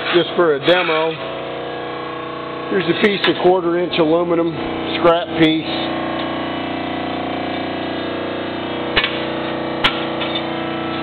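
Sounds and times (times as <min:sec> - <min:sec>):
hydraulic power unit humming: 0:00.0 - 0:11.0.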